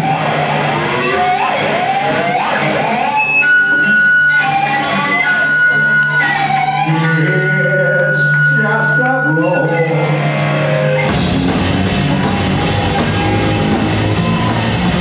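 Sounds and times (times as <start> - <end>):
electric guitar bending notes: 0.0 - 15.0
live rock band: 0.0 - 15.0
high held tone: 0.9 - 15.0.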